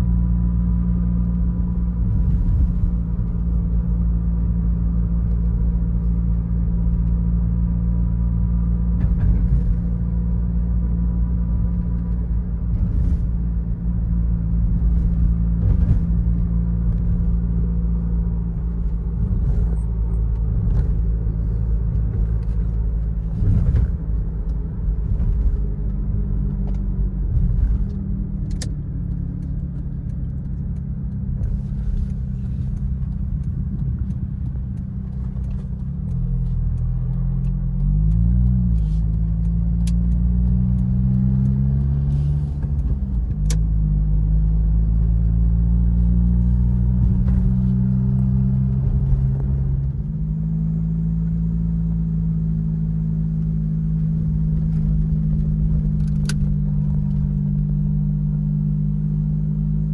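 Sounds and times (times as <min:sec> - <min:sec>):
car engine running: 0:00.0 - 0:59.9
road rumble: 0:00.0 - 0:59.9.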